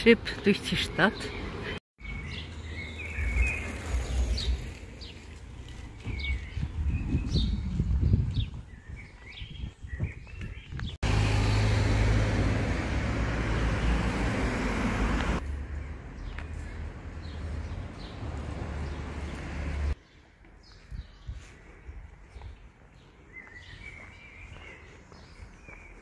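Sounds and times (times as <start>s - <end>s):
birds chirping: 0.0s - 11.8s, 15.7s - 26.0s.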